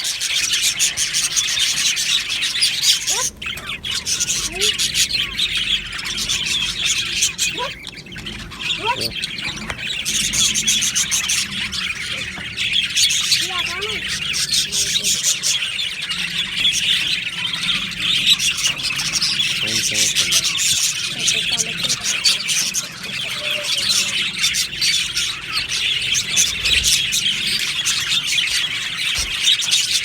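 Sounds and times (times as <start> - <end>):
bird squawks: 0.0 - 30.0
budgerigars chattering and chirping: 0.0 - 30.0.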